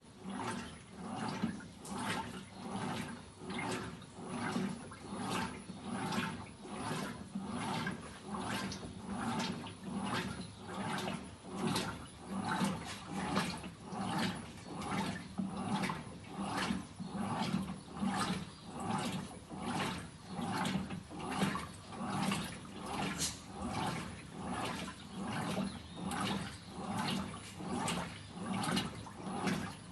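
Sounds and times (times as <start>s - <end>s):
water sloshing in washing machine: 0.0s - 29.9s
motor humming: 0.2s - 29.9s.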